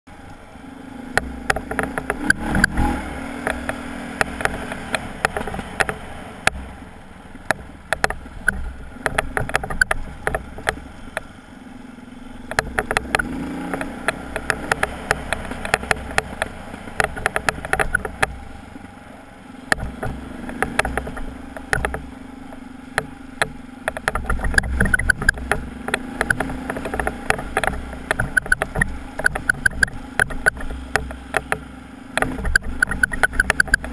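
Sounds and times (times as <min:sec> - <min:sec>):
motorcycle engine running: 0:00.1 - 0:33.9
bike clacking and rattling: 0:01.1 - 0:11.3, 0:12.4 - 0:19.0, 0:19.6 - 0:33.9.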